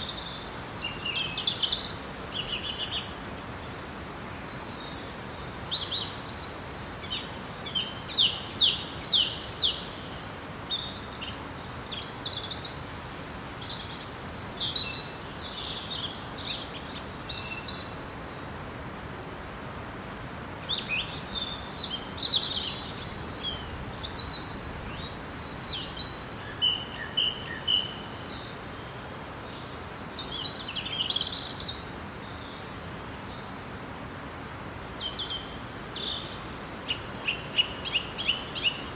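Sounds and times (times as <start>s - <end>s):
songbirds chirping and trilling: 0.0s - 38.9s
steady background hiss: 0.0s - 38.9s.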